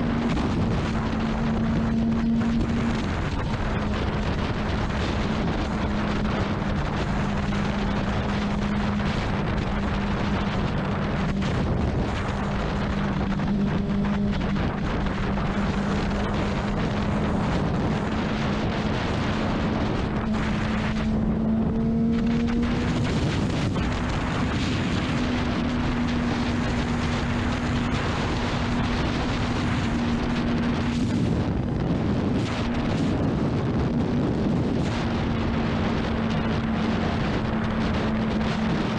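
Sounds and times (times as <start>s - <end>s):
heavy wind noise: 0.0s - 38.9s
motorcycle engine cruising: 0.0s - 38.9s.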